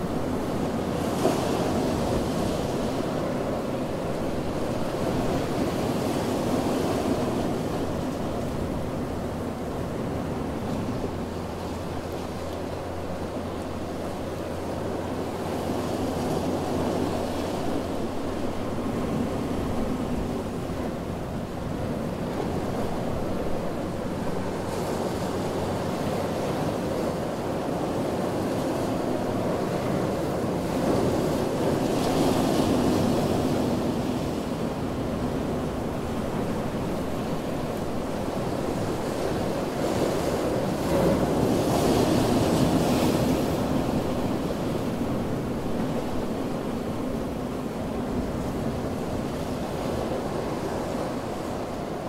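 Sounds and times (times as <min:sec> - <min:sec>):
waves breaking: 0:00.0 - 0:52.0.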